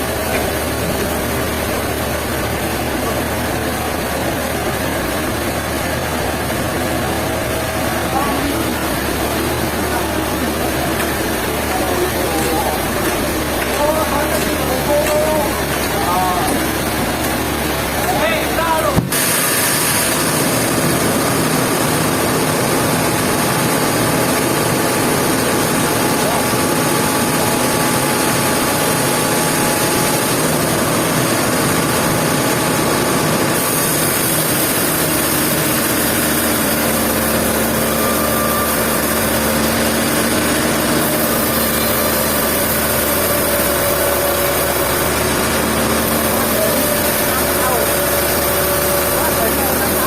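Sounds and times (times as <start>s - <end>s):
sawmill machinery droning: 0.0s - 50.0s.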